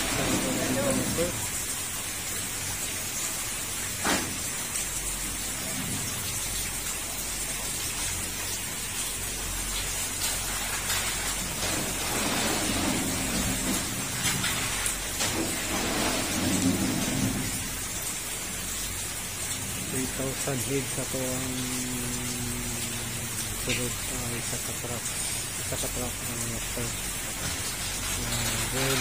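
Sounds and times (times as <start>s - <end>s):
rain hiss: 0.0s - 29.0s.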